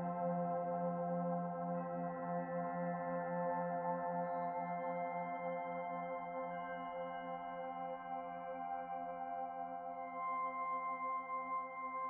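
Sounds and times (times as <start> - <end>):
ambient music with chime-like tones: 0.0 - 12.0.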